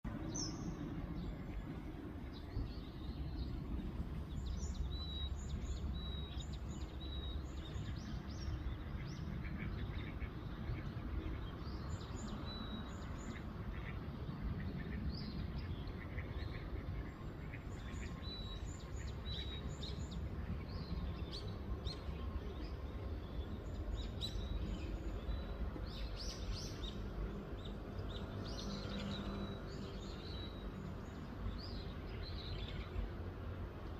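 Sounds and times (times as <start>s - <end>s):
low outdoor rumble: 0.1s - 33.9s.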